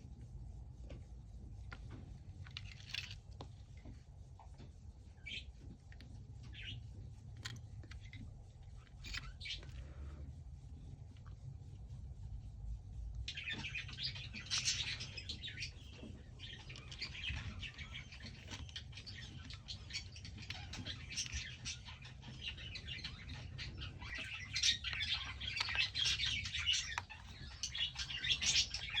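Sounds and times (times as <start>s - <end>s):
small birds chirping: 0.8s - 29.0s.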